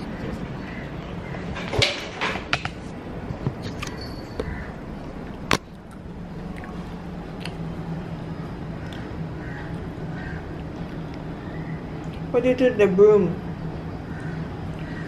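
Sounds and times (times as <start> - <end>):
low hum: 2.6 - 15.0.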